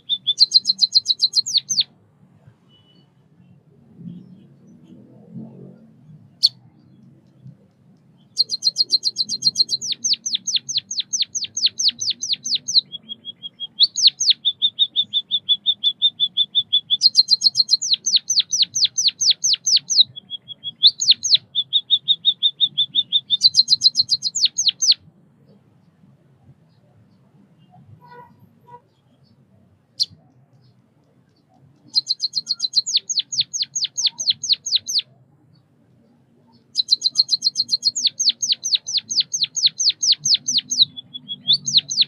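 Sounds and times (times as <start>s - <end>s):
bird singing: 0.0s - 1.9s, 2.7s - 42.0s.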